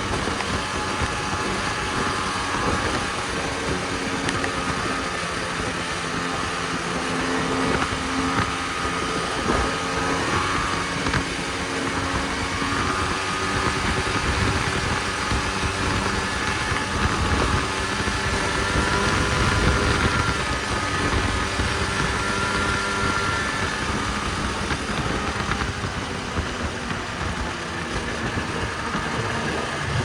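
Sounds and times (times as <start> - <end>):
constant rushing noise: 0.0 - 30.0
snowmobile engine running: 0.0 - 30.0.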